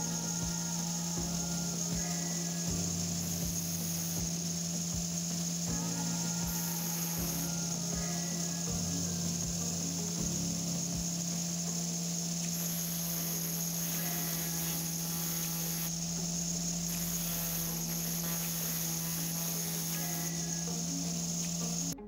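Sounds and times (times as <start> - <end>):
angle grinder whining: 0.0 - 22.0
drill bit grinding on disc: 0.0 - 22.0.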